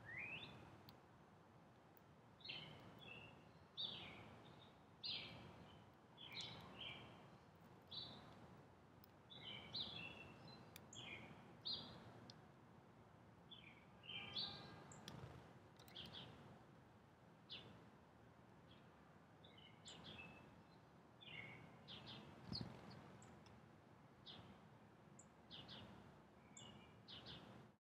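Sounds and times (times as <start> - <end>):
small birds chirping: 0.0 - 1.0, 2.0 - 8.4, 9.0 - 12.4, 13.5 - 16.5, 17.4 - 17.8, 18.6 - 23.6, 24.2 - 27.7.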